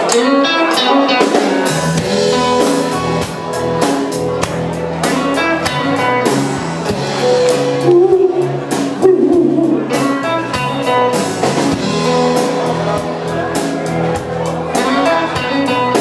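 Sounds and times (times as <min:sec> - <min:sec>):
bass: 0:00.0 - 0:16.0
drum kit: 0:00.0 - 0:16.0
electric guitar: 0:00.0 - 0:16.0.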